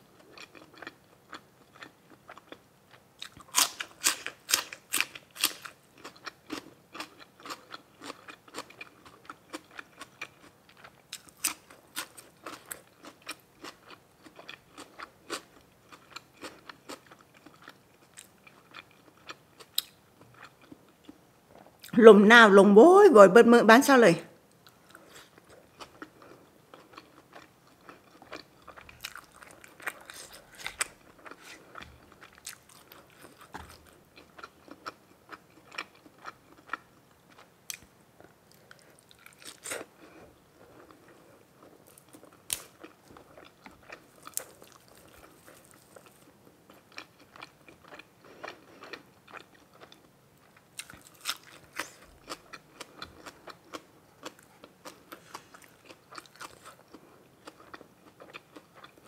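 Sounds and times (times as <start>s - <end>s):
food crunch: 0.2s - 2.6s, 3.2s - 21.2s, 24.6s - 59.0s
person chewing food: 0.2s - 21.9s, 24.5s - 59.0s.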